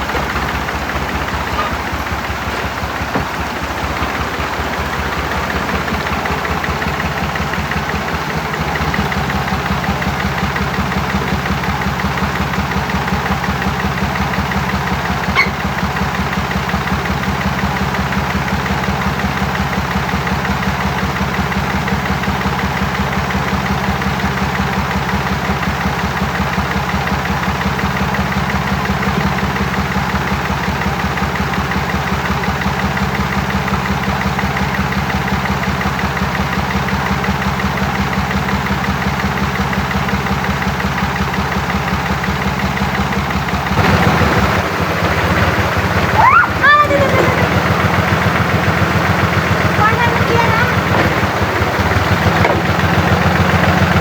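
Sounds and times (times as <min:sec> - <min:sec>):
engine idling with knocking: 0:00.0 - 0:54.0.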